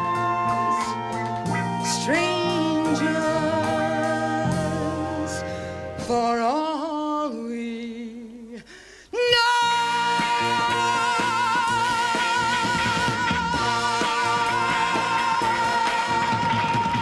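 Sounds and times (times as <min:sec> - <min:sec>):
band accompaniment: 0:00.0 - 0:06.6, 0:09.6 - 0:17.0
woman singing: 0:00.0 - 0:17.0.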